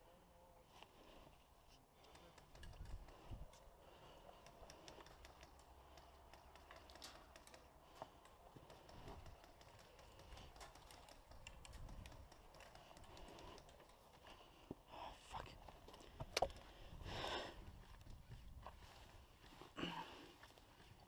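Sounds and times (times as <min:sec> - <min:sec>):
faint small clicks and ticks: 0:02.0 - 0:19.7.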